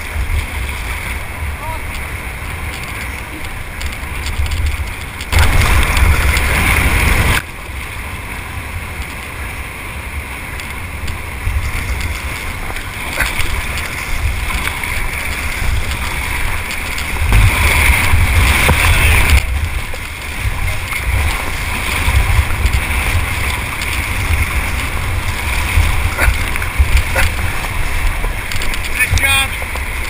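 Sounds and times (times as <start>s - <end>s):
rushing whitewater: 0.0s - 30.0s
wind rumble on microphone: 0.0s - 30.0s.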